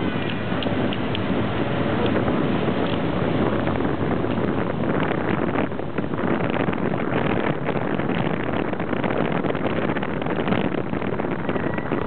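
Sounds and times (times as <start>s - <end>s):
boat rushing through water: 0.0s - 12.0s
wind buffeting microphone: 0.0s - 12.0s.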